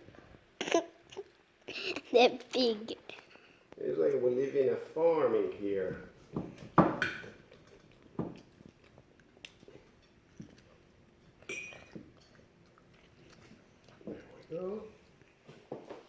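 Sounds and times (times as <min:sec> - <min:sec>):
child chewing noisily: 0:00.6 - 0:04.2, 0:06.1 - 0:16.0.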